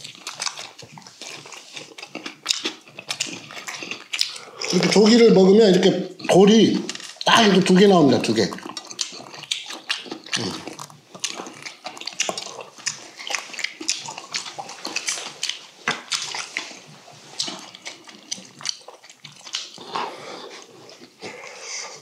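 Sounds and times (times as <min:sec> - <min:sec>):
wet chewing and lip smacking: 0:00.0 - 0:22.0.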